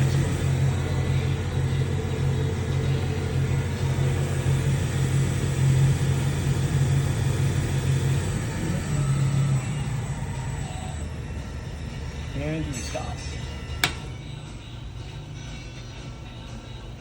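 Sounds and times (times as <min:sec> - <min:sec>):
lathe spindle hum and whine: 0:00.0 - 0:17.0.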